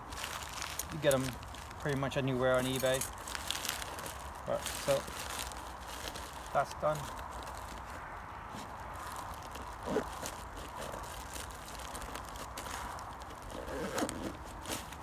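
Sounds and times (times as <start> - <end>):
nylon pouch rustling: 0.0 - 15.0.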